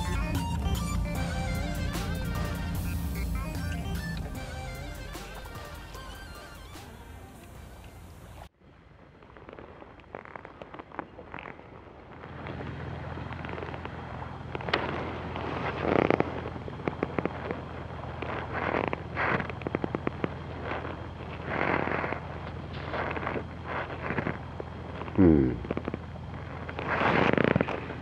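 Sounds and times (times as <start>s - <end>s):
crackling and clicking: 0.0s - 8.5s, 9.2s - 28.0s
low steady rumble: 0.0s - 10.0s, 10.6s - 28.0s.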